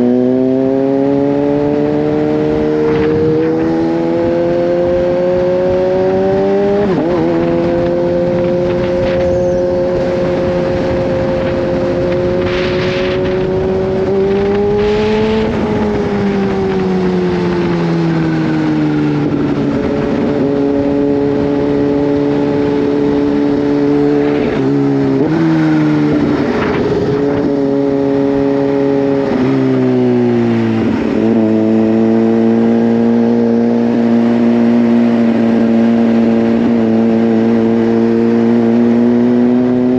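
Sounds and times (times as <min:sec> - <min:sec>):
motorcycle engine with gear changes: 0:00.0 - 0:39.9.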